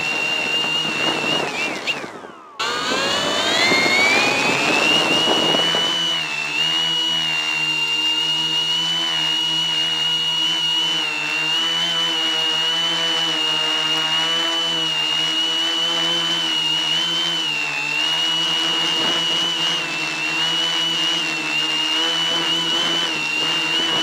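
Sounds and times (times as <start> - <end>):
drone propellers buzzing whine: 0.0 - 24.0.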